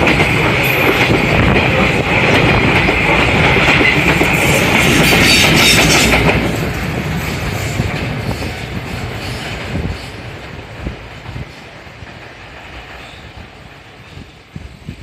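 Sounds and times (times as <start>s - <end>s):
freight train wagons rumbling: 0.0s - 15.0s
metallic ring of train wheels: 0.0s - 15.0s.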